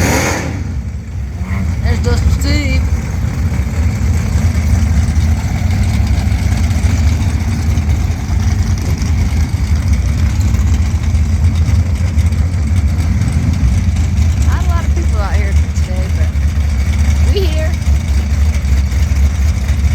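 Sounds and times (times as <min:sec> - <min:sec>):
car engine idling with deep rumble: 0:00.0 - 0:19.9.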